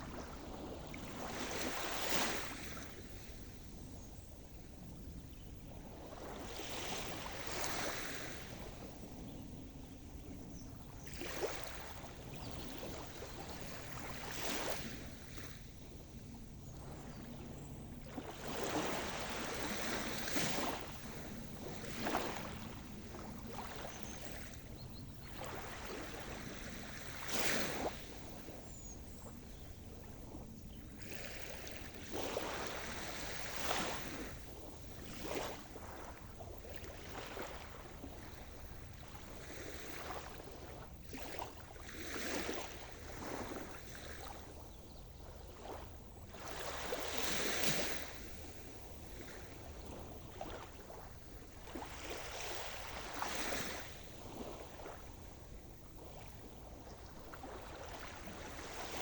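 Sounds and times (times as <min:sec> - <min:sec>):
hiss of sea: 0:00.0 - 0:09.9, 0:17.3 - 0:44.6, 0:45.8 - 0:59.0
waves breaking on shore: 0:00.0 - 0:59.0.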